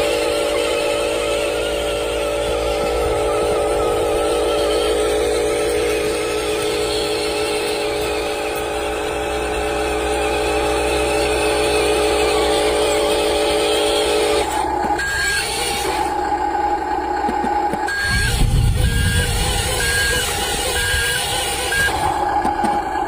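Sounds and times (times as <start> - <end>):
toy motor whirring: 0.0 - 16.4, 17.2 - 22.9.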